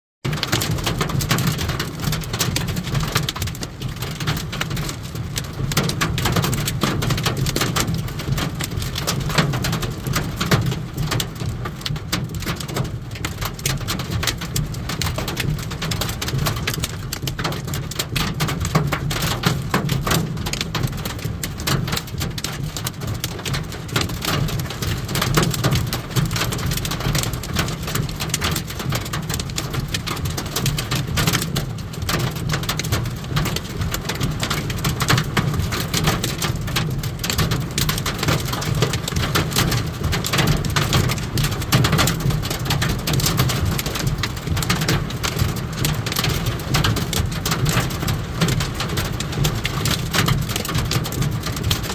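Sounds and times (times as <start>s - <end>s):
hail clattering: 0.3s - 51.9s.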